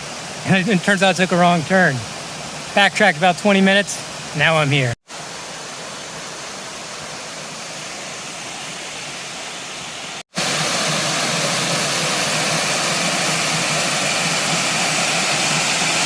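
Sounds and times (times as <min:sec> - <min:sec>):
water rushing over waterfall: 0:00.0 - 0:16.0.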